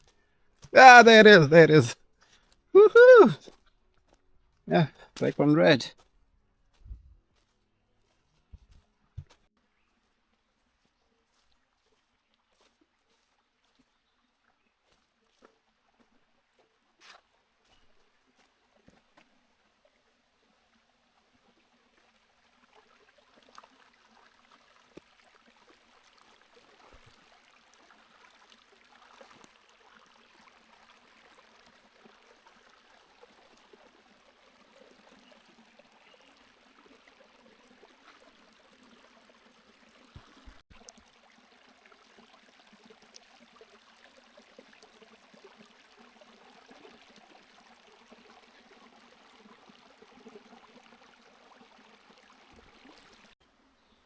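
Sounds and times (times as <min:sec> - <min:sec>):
stream trickling: 0:09.8 - 0:54.0.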